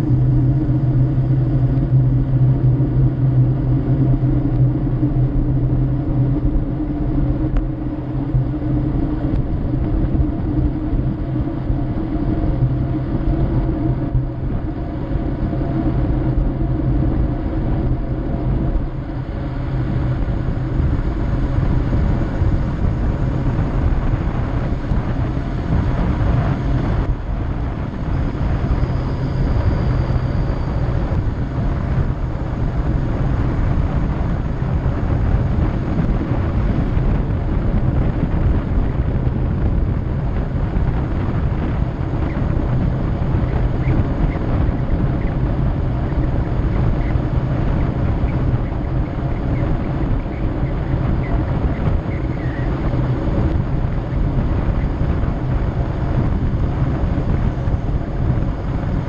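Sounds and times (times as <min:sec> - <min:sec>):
steady low hum: 0:00.0 - 0:59.0
wind roaring over microphone: 0:00.0 - 0:59.0.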